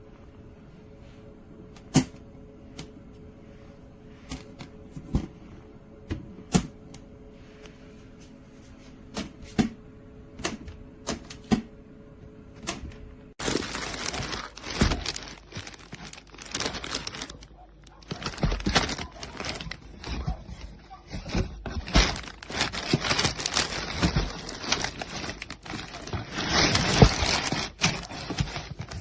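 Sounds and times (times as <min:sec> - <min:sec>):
faint steady hum: 0:00.0 - 0:29.0
dense crinkling and rustling: 0:01.7 - 0:09.8, 0:12.6 - 0:29.0.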